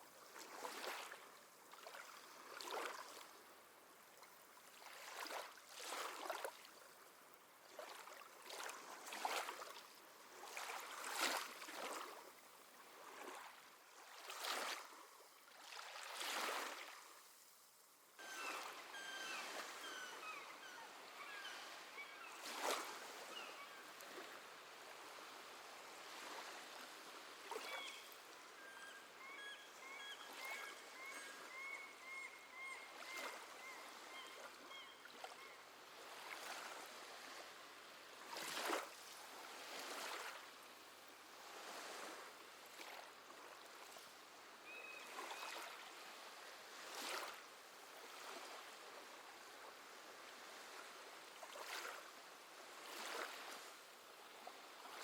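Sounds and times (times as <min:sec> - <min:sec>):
small waves lapping: 0:00.0 - 0:55.0.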